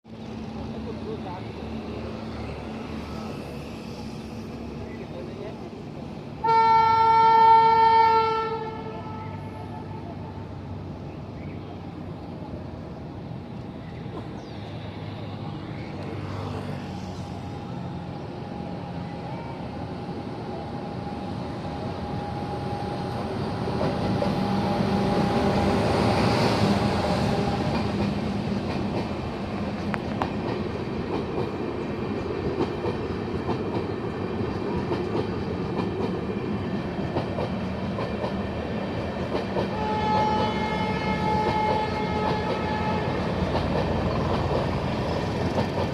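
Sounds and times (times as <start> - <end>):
train wheels on rails: 0.1 - 7.9, 8.5 - 45.9.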